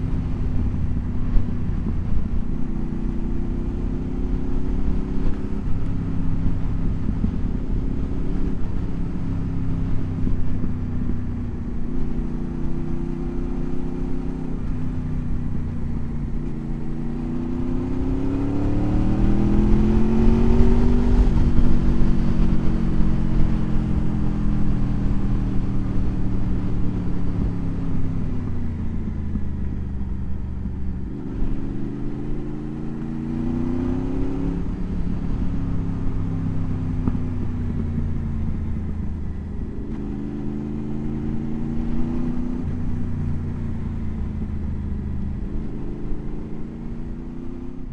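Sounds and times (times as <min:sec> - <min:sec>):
motorcycle engine shifting gears: 0:00.0 - 0:47.9.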